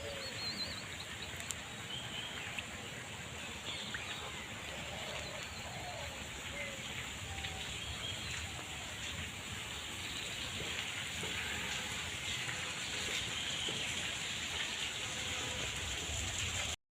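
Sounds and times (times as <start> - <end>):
light rain hiss: 0.0 - 16.8
water dripping: 0.0 - 16.8.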